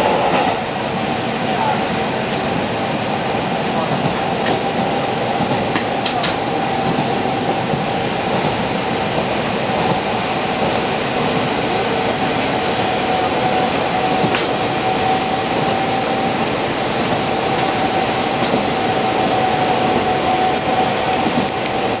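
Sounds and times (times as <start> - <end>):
railcar rumble under way: 0.0 - 22.0.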